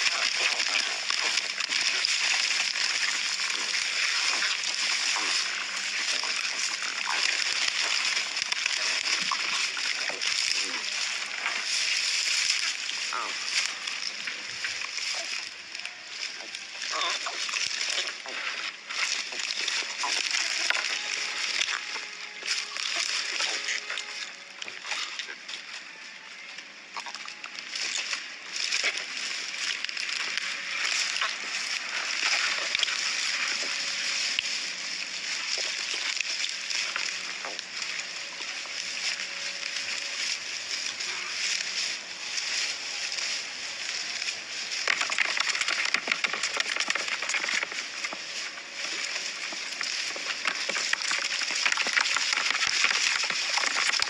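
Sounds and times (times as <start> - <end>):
water sloshing and splashing: 0.0 - 54.0.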